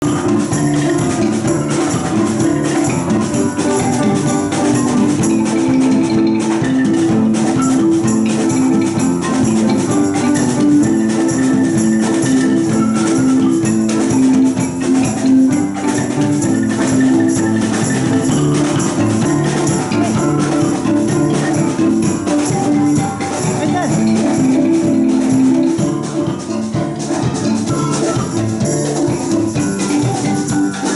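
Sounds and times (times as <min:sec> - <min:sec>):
music with percussive beat: 0:00.0 - 0:30.9.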